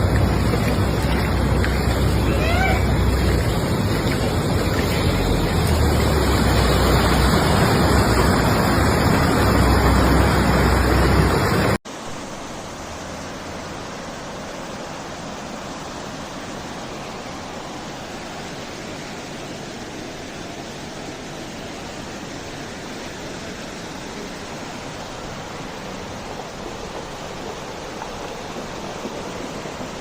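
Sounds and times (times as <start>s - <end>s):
heavy rain: 0.0s - 30.0s
rushing water: 0.0s - 30.0s.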